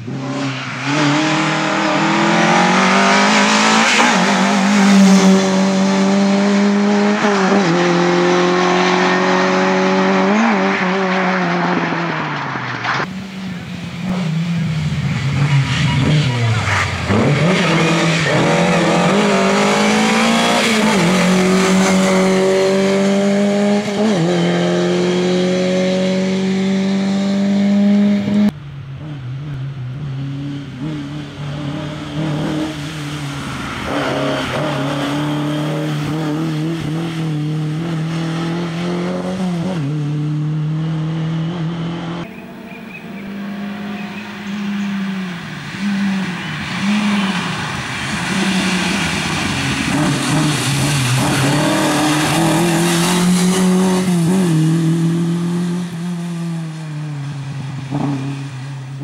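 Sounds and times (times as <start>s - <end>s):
rally car engine at full throttle: 0.0s - 59.0s.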